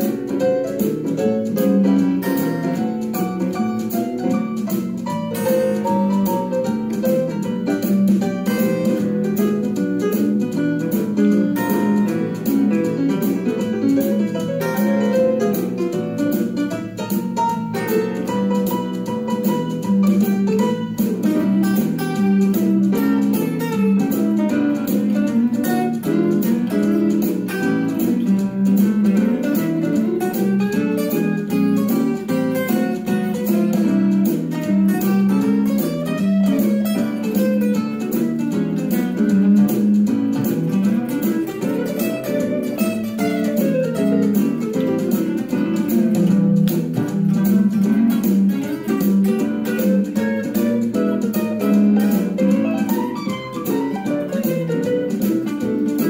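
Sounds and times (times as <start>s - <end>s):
bass: 0.0s - 56.0s
drums: 0.0s - 56.0s
electric guitar lead: 0.0s - 56.0s
piano: 0.0s - 56.0s.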